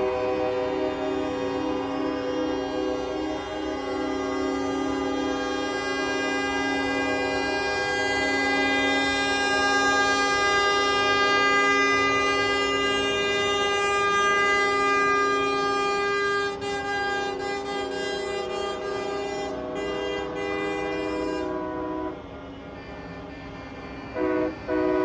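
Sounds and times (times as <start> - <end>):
chord air horn blast: 0.0 - 22.3, 22.9 - 25.0.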